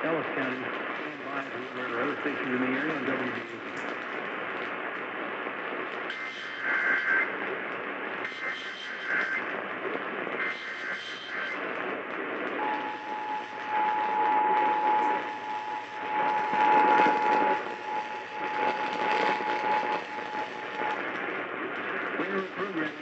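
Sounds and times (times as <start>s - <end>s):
radio static: 0.0s - 23.0s.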